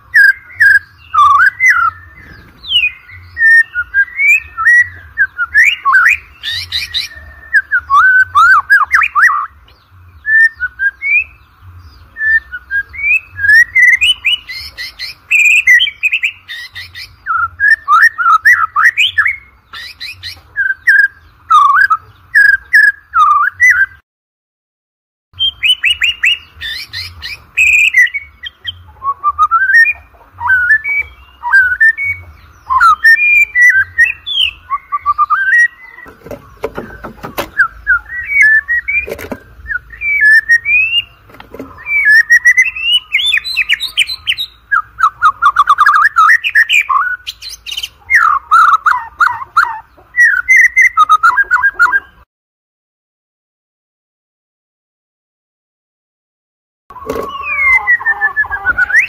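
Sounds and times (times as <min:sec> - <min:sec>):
bird singing whistled phrases: 0:00.0 - 0:09.6, 0:10.2 - 0:11.4, 0:12.0 - 0:24.0, 0:25.4 - 0:52.2, 0:56.9 - 0:59.0.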